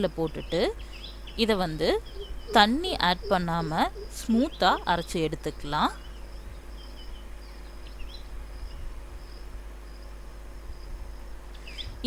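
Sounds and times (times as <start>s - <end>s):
insects chirping: 0.0s - 12.0s
steady low hum: 0.0s - 12.0s.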